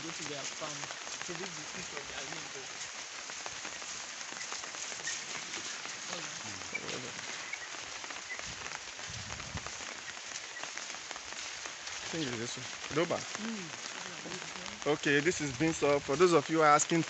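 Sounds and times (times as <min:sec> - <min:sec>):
hissing patter of small ticks: 0:00.0 - 0:17.0.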